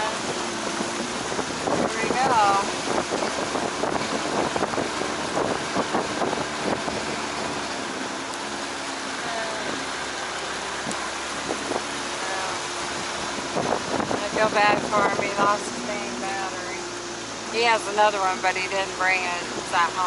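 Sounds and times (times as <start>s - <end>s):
boat motor noise: 0.0s - 20.0s
wind on microphone: 0.0s - 20.0s.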